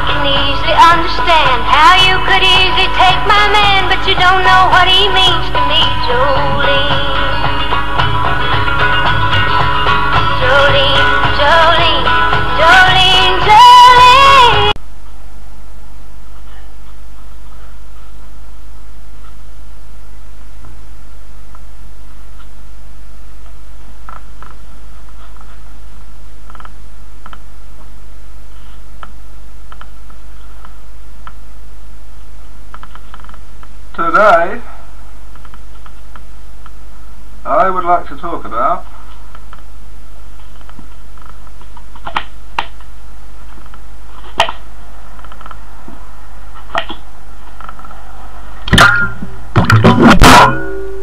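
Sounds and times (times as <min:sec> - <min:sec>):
low electrical hum: 0:00.0 - 0:51.0.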